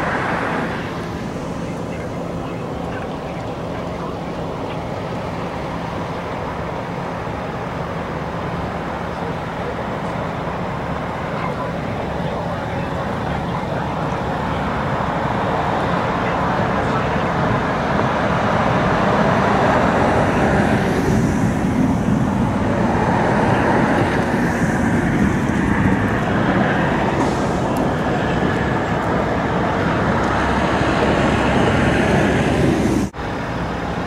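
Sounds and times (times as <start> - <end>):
highway traffic noise: 0.0 - 34.0.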